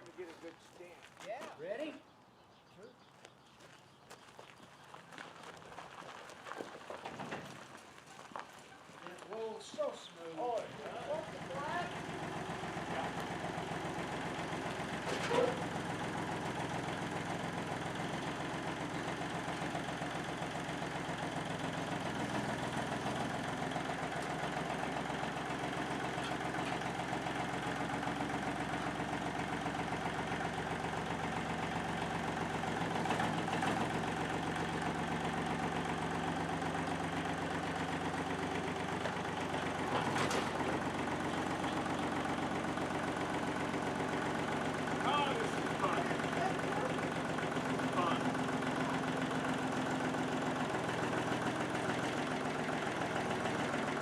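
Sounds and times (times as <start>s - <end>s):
vehicle engine idling: 2.4s - 54.0s.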